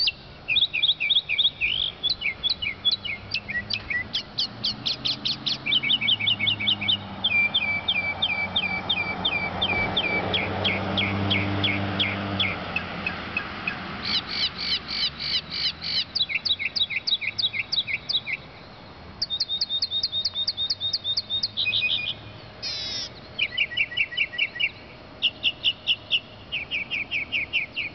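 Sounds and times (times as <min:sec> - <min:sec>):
mockingbird singing: 0:00.0 - 0:27.9.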